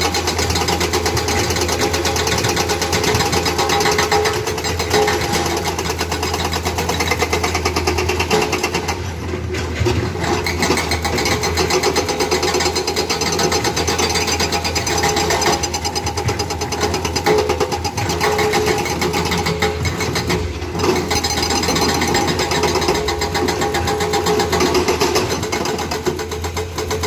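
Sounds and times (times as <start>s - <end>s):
diesel engine running: 0.0s - 27.0s
hydraulic breaker hammering: 0.0s - 27.0s.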